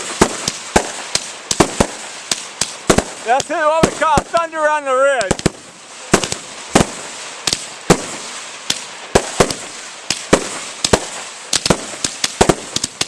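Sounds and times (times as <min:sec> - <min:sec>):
fireworks bangs: 0:00.0 - 0:13.0
steady hiss: 0:00.0 - 0:13.0.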